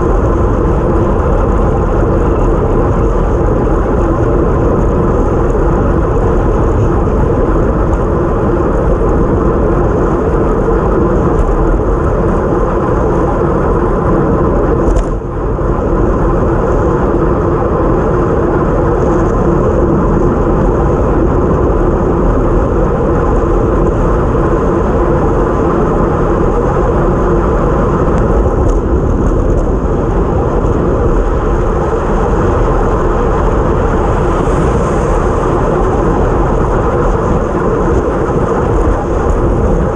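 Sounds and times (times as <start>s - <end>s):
tyre and road noise: 0.0s - 39.9s
wind noise on microphone: 0.0s - 39.9s.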